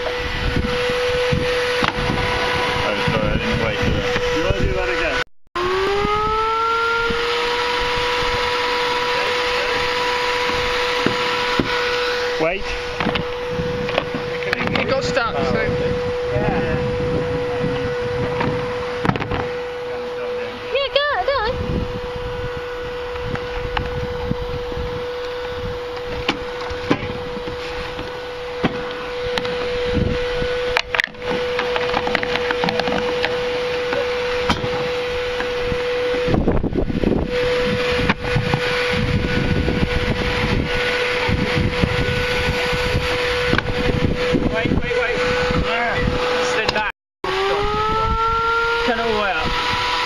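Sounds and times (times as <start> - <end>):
rushing air through pipes: 0.0 - 50.0
vacuum cleaner motor whine: 0.0 - 50.0.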